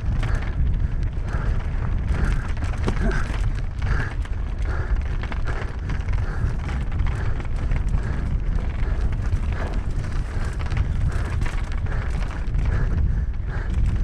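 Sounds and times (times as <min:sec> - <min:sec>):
bike rattling over ground: 0:00.0 - 0:14.0
wind buffeting microphone: 0:00.0 - 0:14.0.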